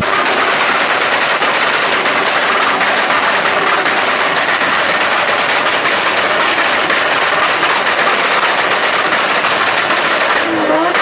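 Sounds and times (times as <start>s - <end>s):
turbocharged car engine: 0.0s - 11.0s.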